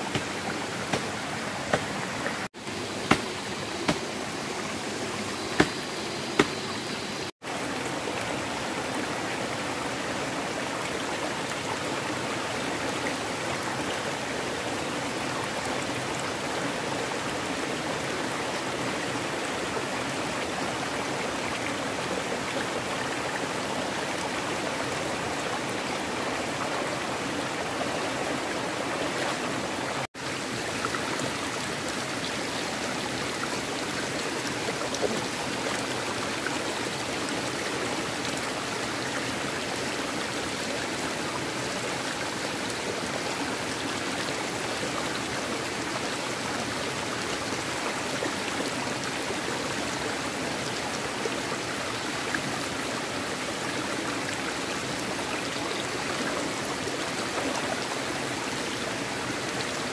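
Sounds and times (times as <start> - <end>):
stream running over stones: 0.0 - 59.9.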